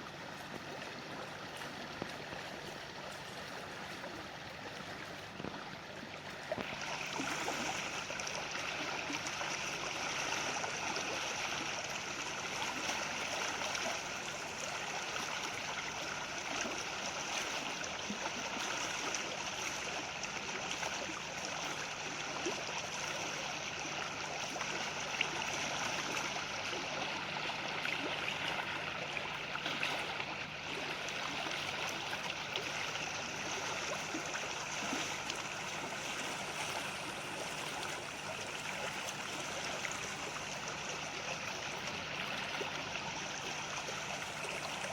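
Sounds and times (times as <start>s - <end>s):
stream flowing: 0.0s - 44.9s.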